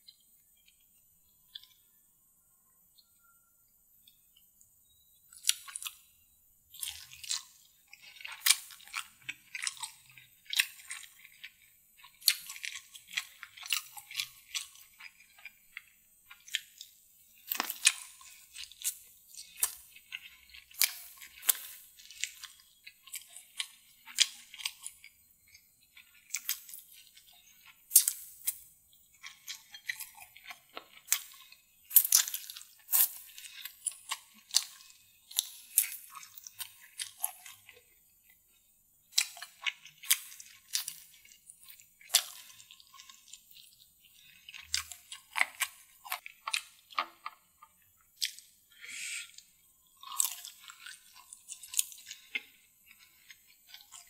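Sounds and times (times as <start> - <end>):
chewing and crunching: 0.1 - 2.4, 4.0 - 54.0.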